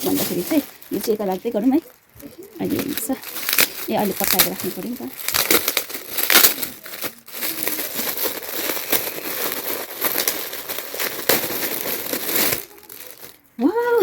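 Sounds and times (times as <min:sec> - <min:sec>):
gift wrapping crinkling and tearing: 0:00.0 - 0:14.0.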